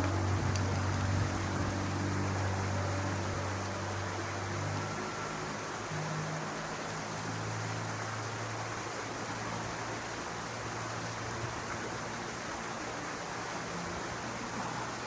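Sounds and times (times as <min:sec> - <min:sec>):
low even hum: 0:00.0 - 0:15.0
steady rushing noise: 0:00.0 - 0:15.0.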